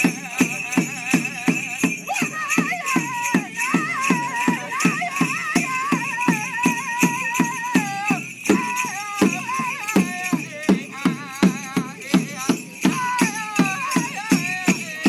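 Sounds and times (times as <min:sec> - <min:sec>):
hand drum beating: 0:00.0 - 0:15.0.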